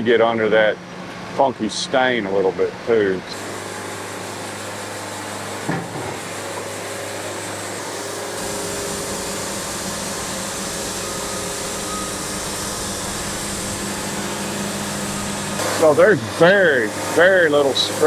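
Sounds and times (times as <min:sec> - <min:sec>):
band saw cutting log: 0:03.4 - 0:18.0.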